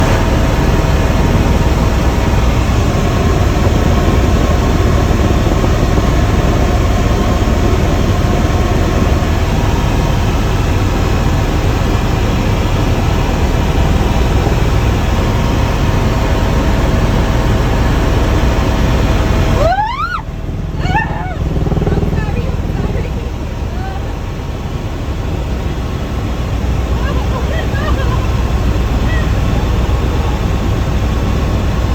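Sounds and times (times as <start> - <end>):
helicopter rotor and engine noise: 0.0 - 31.9.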